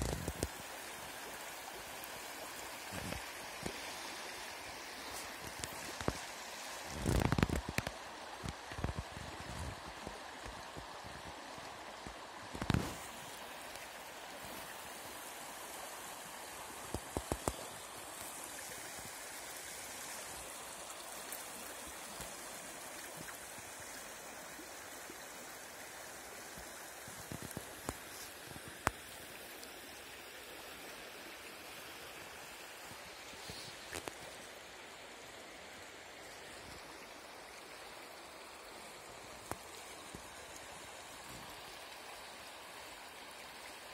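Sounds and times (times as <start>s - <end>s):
river rushing over stones: 0.0s - 43.9s.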